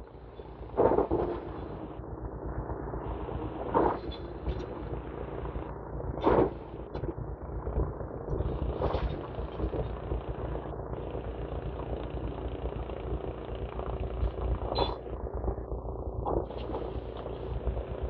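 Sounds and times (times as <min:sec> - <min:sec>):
heavy diesel engines rumbling: 0:00.0 - 0:18.0.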